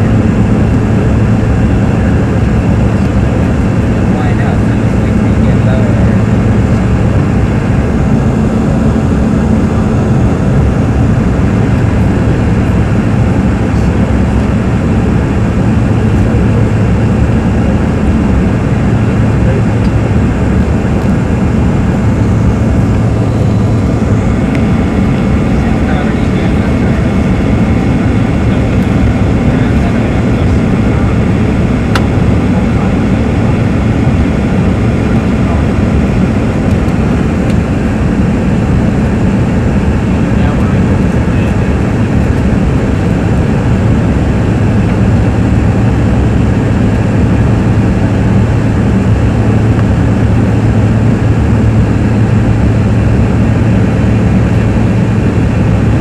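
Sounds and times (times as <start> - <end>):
jet cabin engine and airflow noise: 0.0 - 56.0
low hum: 0.0 - 56.0.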